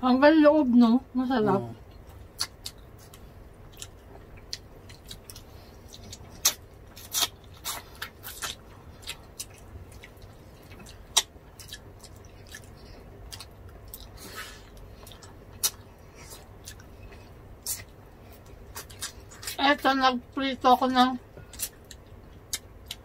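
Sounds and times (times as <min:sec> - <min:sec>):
mouth smacks and chewing: 0:01.9 - 0:19.6, 0:21.4 - 0:23.0.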